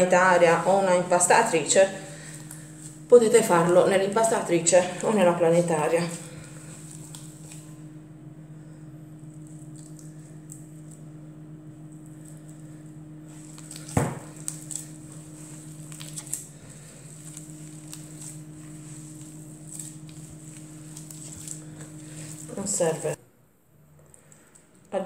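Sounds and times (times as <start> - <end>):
hands kneading squishy dough: 0.0 - 7.8, 9.2 - 11.1, 11.8 - 23.2
steady low hum: 0.0 - 25.0.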